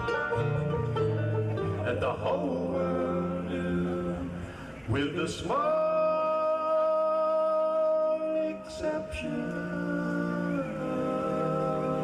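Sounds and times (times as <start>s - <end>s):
bluegrass vocal harmony: 0.0s - 12.0s.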